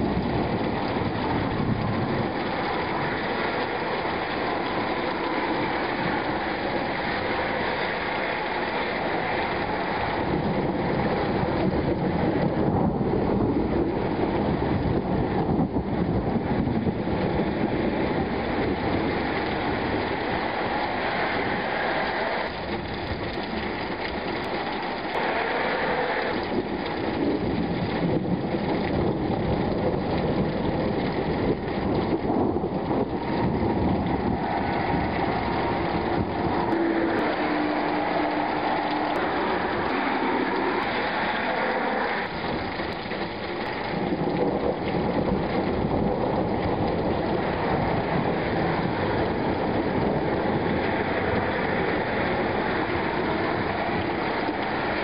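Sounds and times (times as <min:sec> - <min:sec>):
low rolling thunder: 0:00.0 - 0:55.0
steady rain: 0:00.0 - 0:55.0.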